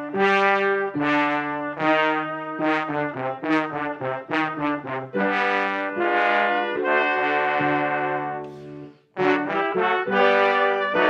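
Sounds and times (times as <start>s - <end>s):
brass ensemble with piano: 0.0s - 11.0s.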